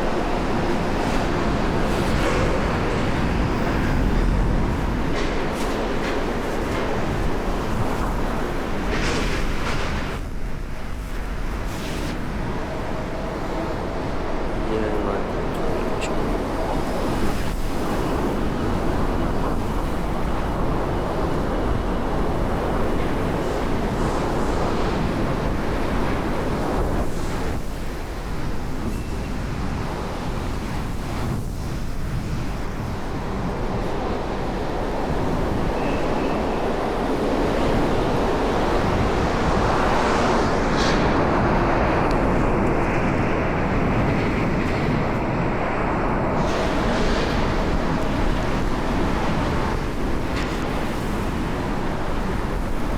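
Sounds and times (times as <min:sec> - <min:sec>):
strong wind on microphone: 0:00.0 - 0:52.9.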